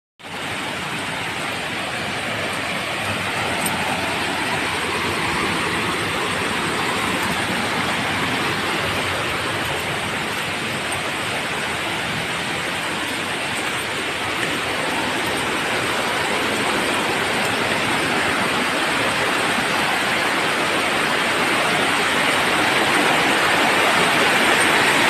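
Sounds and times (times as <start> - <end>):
waterfall rushing: 0.2 - 25.0.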